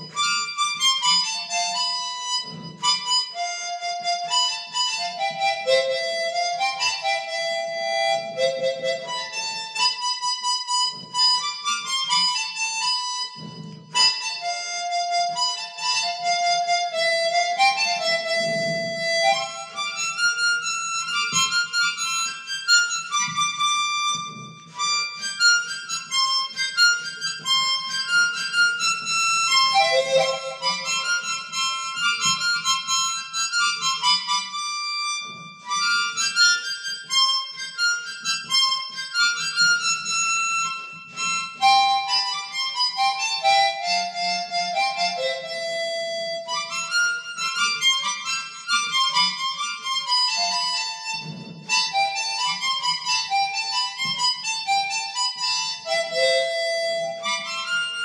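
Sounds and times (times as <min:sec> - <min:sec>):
harmonica melody: 0:00.0 - 0:58.0.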